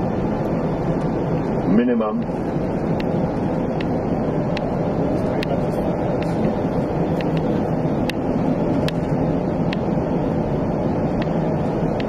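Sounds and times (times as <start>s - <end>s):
cockpit engine and airflow noise: 0.0s - 12.0s.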